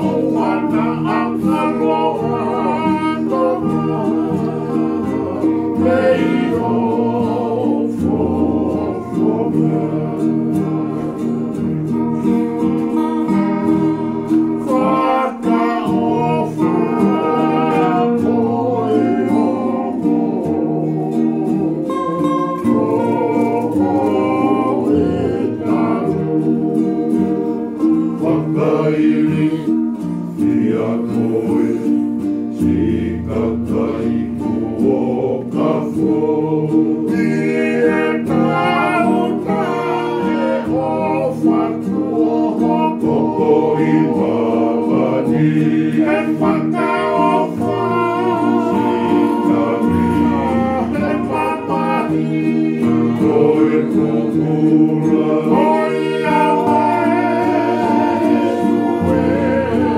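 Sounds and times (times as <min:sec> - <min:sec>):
acoustic guitars: 0:00.0 - 0:59.9
men singing together: 0:00.0 - 0:59.9.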